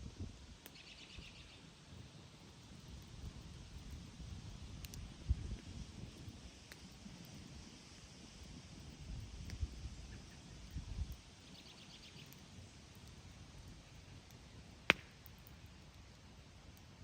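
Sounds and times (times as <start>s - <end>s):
campfire burning: 0.0s - 17.0s.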